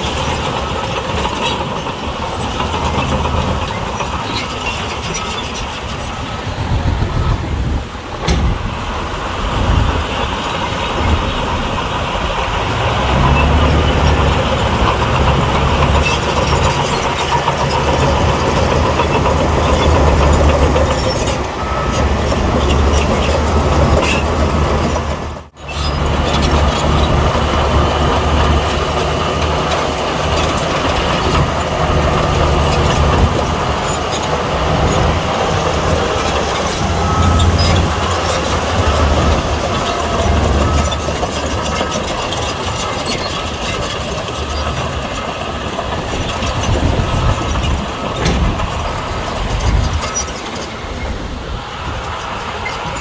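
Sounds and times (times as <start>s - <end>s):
bulldozer diesel engine rumbling: 0.0s - 53.0s
steel tracks clattering: 0.0s - 53.0s.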